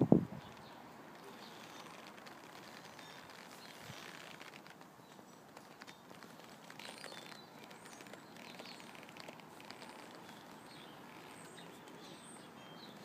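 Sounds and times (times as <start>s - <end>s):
distant birds chirping: 0.3s - 13.0s.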